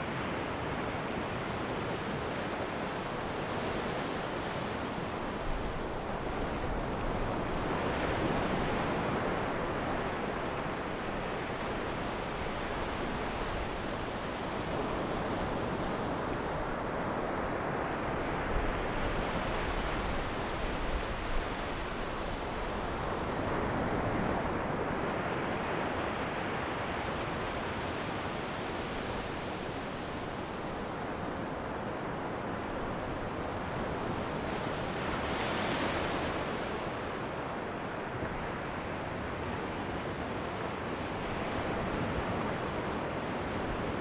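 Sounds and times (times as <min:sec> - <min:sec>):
ocean waves breaking on shore: 0:00.0 - 0:44.0.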